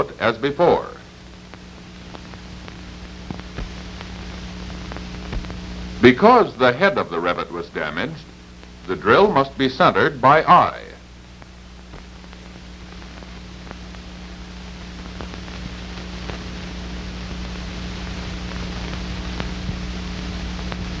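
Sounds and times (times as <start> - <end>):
faint crackles: 0.0 - 21.0
film soundtrack hiss: 0.0 - 21.0
mains hum: 0.0 - 21.0.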